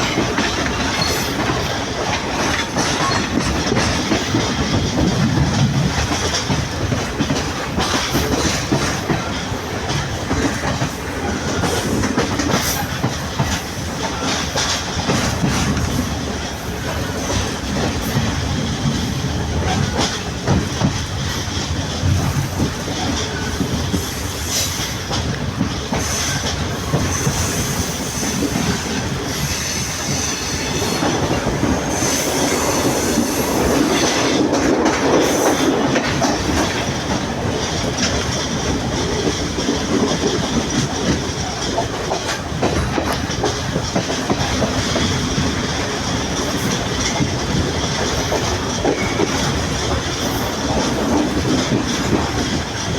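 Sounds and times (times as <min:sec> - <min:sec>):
train wheels clacking on rails: 0:00.0 - 0:52.9.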